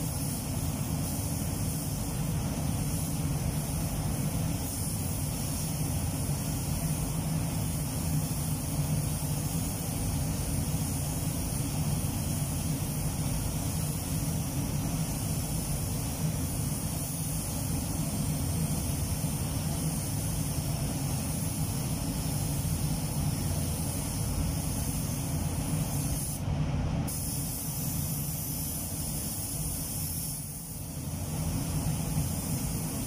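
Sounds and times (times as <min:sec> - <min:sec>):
spray gun hissing: 0:00.0 - 0:26.5, 0:27.1 - 0:33.0.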